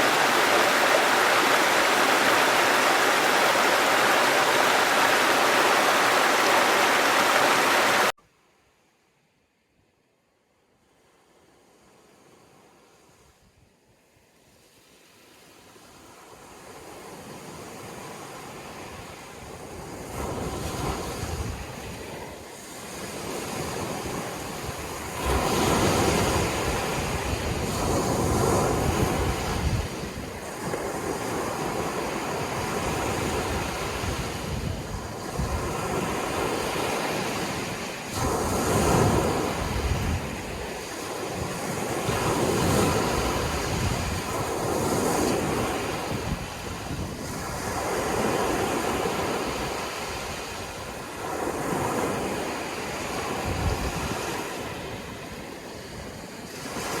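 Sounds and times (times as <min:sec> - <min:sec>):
sea waves breaking: 0:00.0 - 0:08.2, 0:16.4 - 0:57.0.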